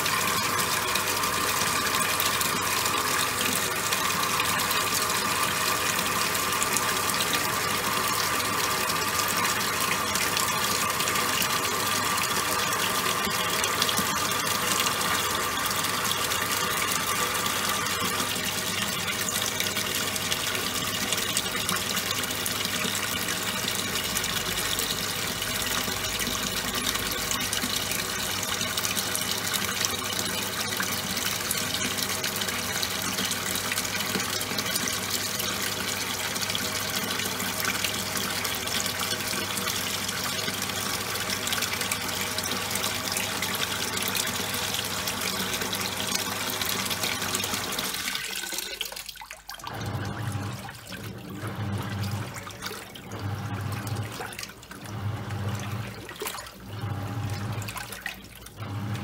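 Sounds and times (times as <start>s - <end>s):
washing machine hum: 0.0s - 59.0s
washing machine water noise: 0.0s - 59.0s.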